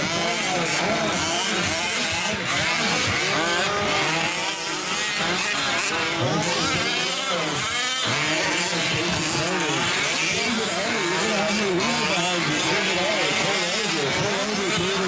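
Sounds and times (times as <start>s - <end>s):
small two-stroke engines racing: 0.0s - 15.0s.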